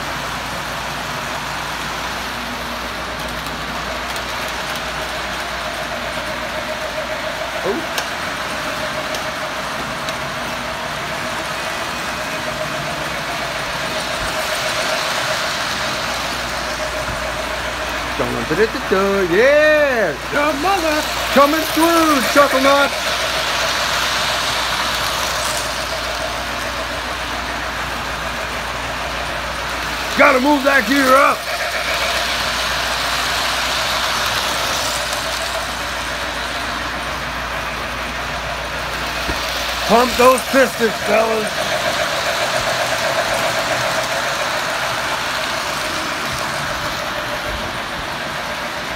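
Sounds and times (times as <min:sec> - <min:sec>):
model train motors whirring: 0:00.0 - 0:48.9
wheels rolling on rails: 0:00.0 - 0:48.9.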